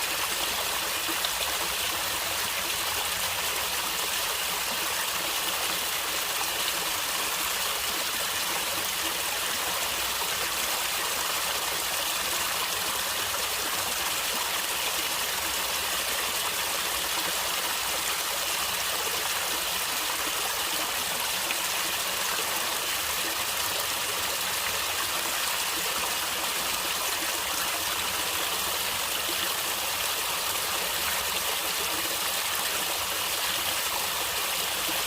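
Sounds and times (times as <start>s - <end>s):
stream water flowing over rocks: 0.0s - 35.0s.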